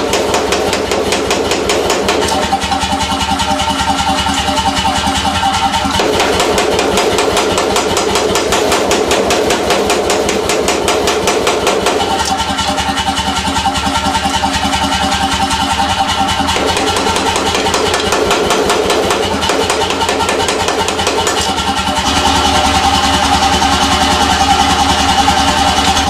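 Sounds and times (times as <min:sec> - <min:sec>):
power hammer striking: 0:00.0 - 0:26.0.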